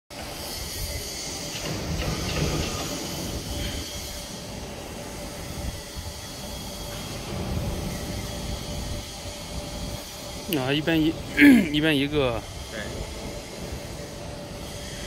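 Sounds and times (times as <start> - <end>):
grinding machine humming: 0.1 - 15.0
constant hiss: 1.0 - 15.0.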